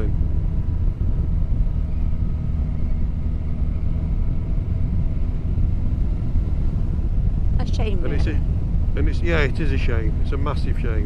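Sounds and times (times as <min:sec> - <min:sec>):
motorcycle engine drone: 0:00.0 - 0:11.0
wind rumble on microphone: 0:00.0 - 0:11.0.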